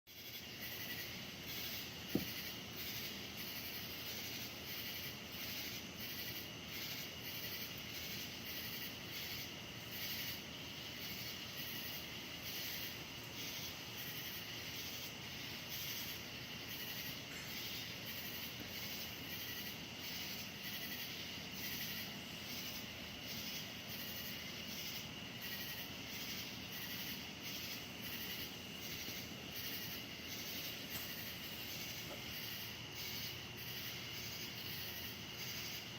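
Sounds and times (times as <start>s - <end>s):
insects buzzing: 0.1s - 35.9s.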